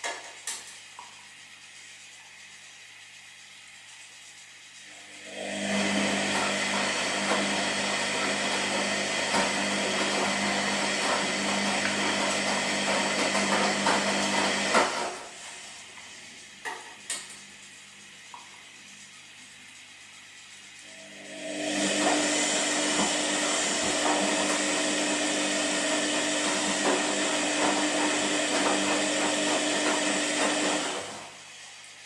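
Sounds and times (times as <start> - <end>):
washing machine churning: 0.0 - 32.0.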